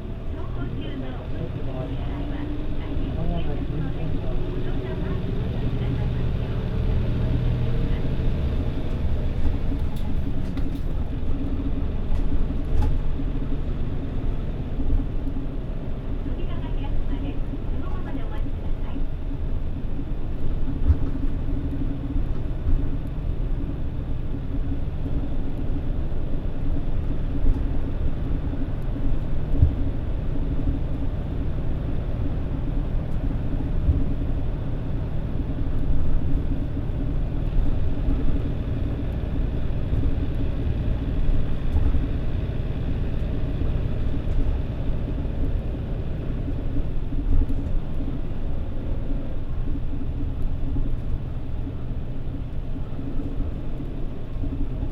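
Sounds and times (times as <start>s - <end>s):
bus diesel engine idling: 0.0s - 54.9s.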